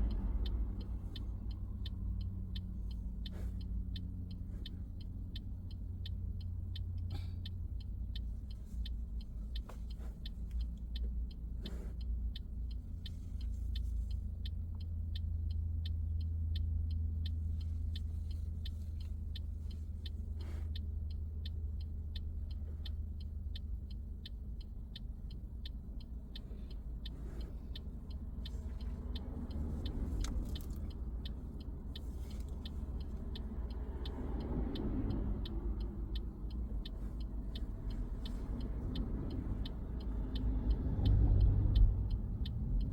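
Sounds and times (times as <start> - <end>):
car engine and road rumble: 0.0 - 42.9
turn indicator ticking: 0.0 - 42.9.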